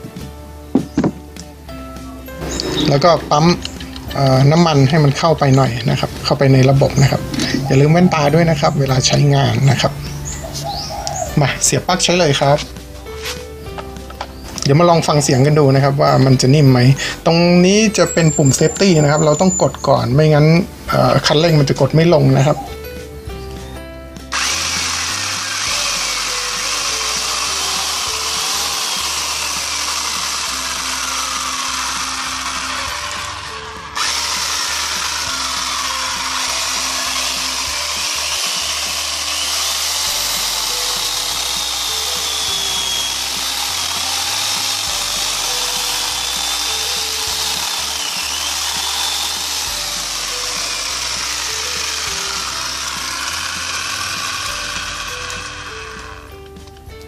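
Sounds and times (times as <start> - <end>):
electric chainsaw whirring: 0.0 - 57.0.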